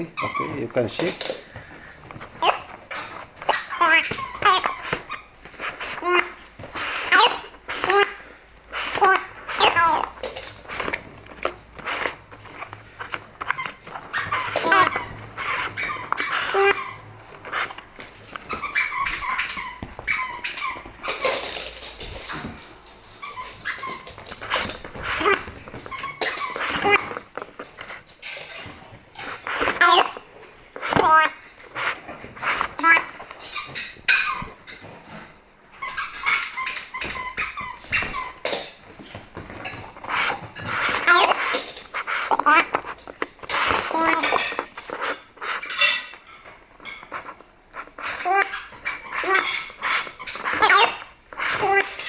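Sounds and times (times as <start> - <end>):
dog noises: 0.0 - 30.2, 35.8 - 52.0.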